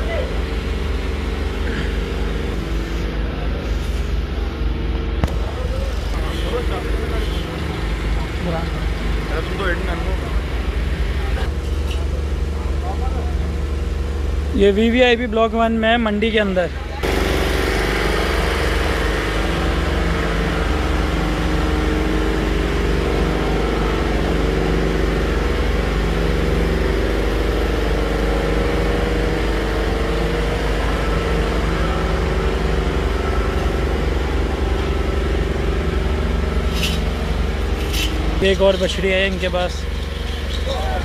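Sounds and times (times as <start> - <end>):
steady engine drone: 0.0 - 41.0.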